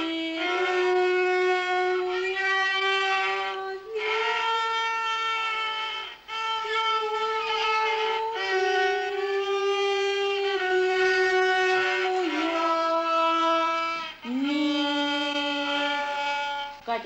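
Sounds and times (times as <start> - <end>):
violin played by child: 0.0 - 17.0.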